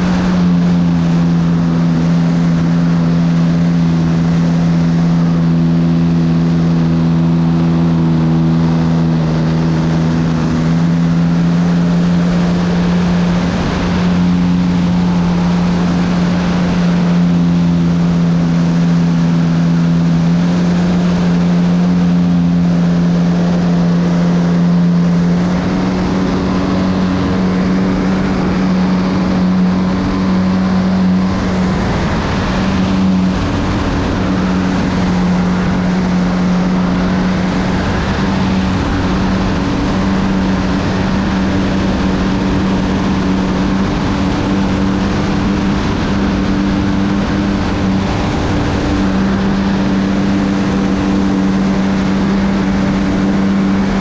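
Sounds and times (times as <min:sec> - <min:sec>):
model airplane engine running: 0:00.0 - 0:54.0
wind rushing over microphone: 0:00.0 - 0:54.0.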